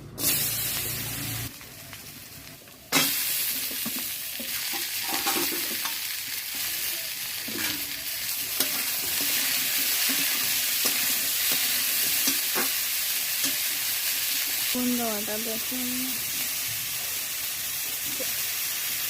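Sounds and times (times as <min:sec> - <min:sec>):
food sizzling in hot oil: 0:00.2 - 0:19.0.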